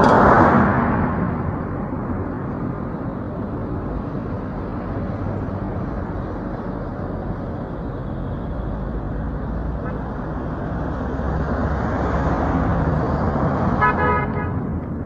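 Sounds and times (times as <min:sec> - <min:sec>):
street noise rumble: 0:00.0 - 0:15.0.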